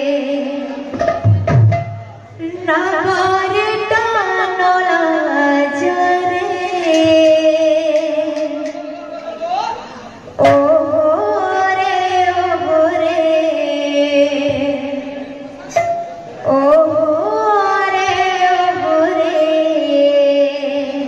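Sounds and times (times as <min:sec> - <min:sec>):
person singing devotional music: 0:02.4 - 0:08.8, 0:10.0 - 0:21.0.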